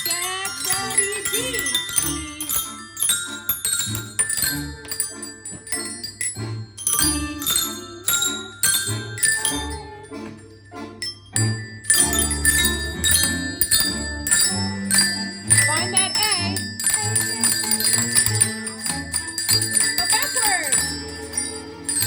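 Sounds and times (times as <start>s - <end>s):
xylophone ensemble spooky tune: 0.0s - 22.0s.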